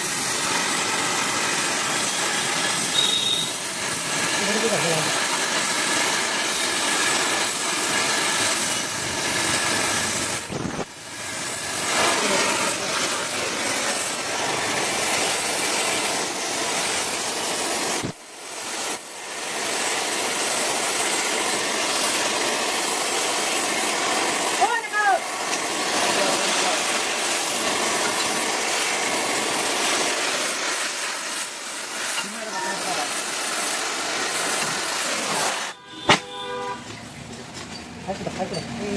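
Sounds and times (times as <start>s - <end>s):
gas torch flame hissing: 0.0s - 36.5s.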